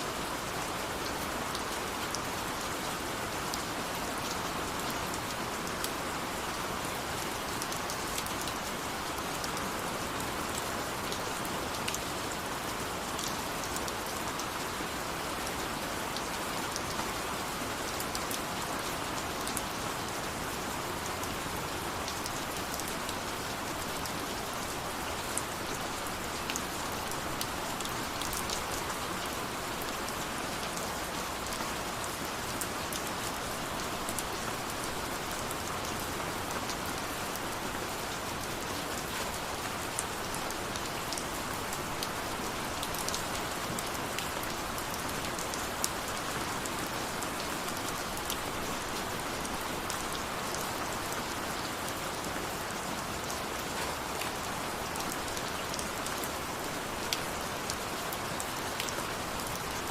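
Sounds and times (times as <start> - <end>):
rain falling: 0.0 - 59.9
sharp ticks of raindrops: 0.1 - 59.9.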